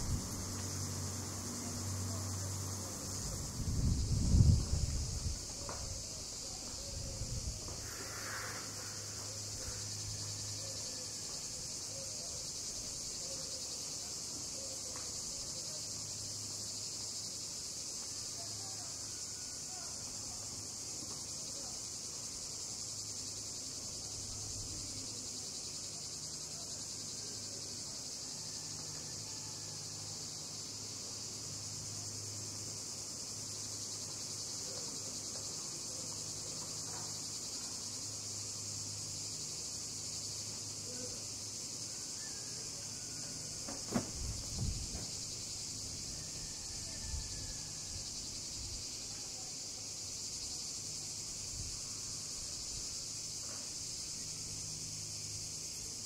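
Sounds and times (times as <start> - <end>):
cicadas singing: 0.0 - 56.0.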